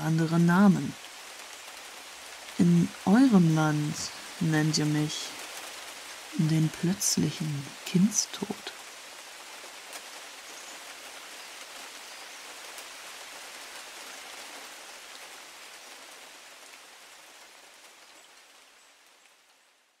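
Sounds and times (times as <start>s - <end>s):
heavy rain hiss: 0.0s - 20.0s.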